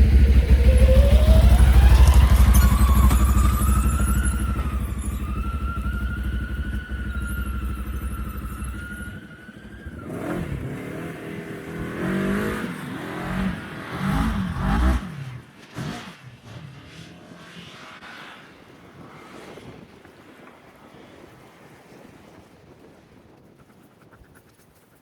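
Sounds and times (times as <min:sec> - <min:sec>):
engine whining and revving: 0:00.0 - 0:20.2.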